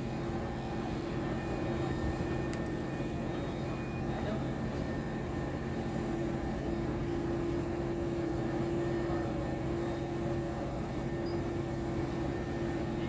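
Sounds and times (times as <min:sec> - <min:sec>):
heavy lifting machinery droning: 0:00.0 - 0:13.0.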